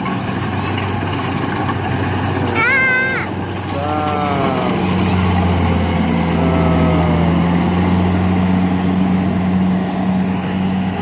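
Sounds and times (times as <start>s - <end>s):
harvester engine humming: 0.0s - 11.0s.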